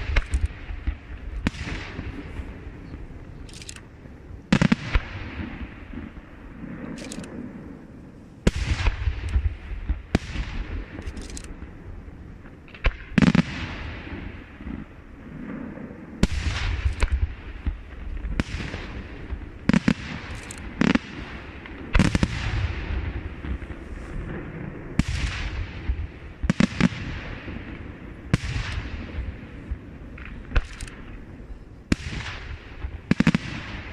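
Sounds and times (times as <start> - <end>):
firework bangs with rumbling echo: 0.0 - 3.4, 4.5 - 7.8, 8.4 - 33.9.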